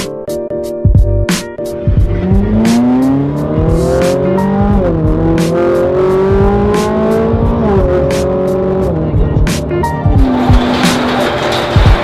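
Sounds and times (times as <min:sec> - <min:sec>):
car engine accelerating through gears: 0:01.7 - 0:11.8.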